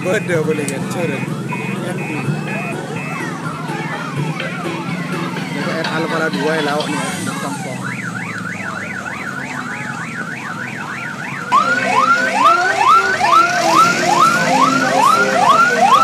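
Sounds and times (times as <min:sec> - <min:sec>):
warbling electronic siren: 0:00.0 - 0:05.8, 0:07.2 - 0:16.0
whooping siren: 0:00.0 - 0:05.9, 0:07.1 - 0:16.0.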